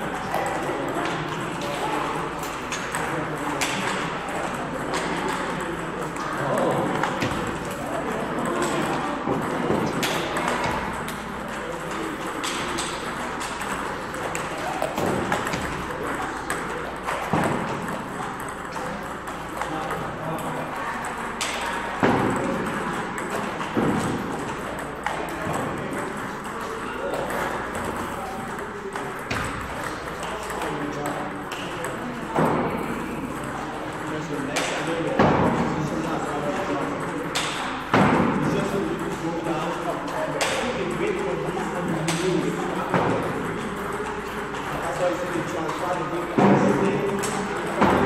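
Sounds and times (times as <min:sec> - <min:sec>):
ping-pong ball bouncing: 0:00.0 - 0:48.0.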